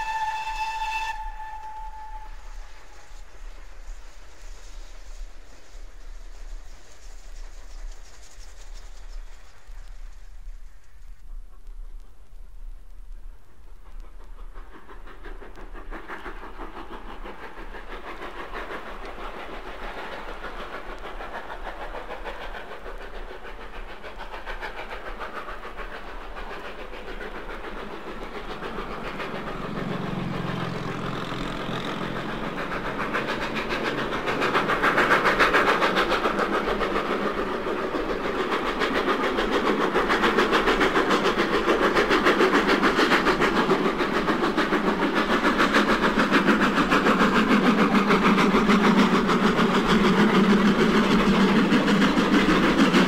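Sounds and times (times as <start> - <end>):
steam locomotive exhaust beats: 0.0 - 53.0.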